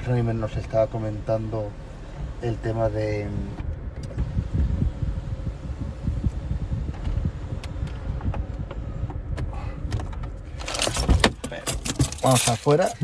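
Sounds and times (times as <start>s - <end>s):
faint steady hum: 0.0s - 12.7s
engine and tyre rumble: 0.0s - 13.0s.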